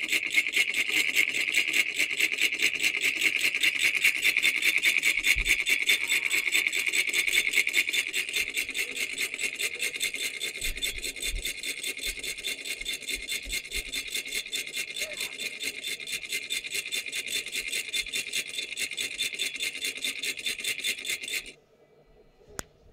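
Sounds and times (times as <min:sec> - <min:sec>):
solenoid engine clattering: 0:00.0 - 0:21.6.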